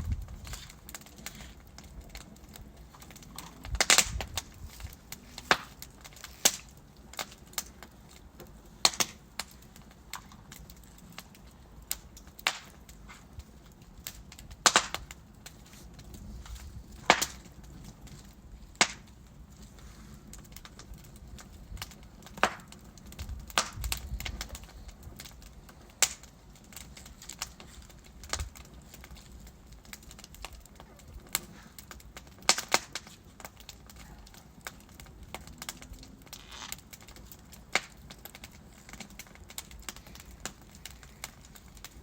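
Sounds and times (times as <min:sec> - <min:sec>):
fire hissing: 0:00.0 - 0:42.0
wood fire crackling and popping: 0:00.0 - 0:42.0.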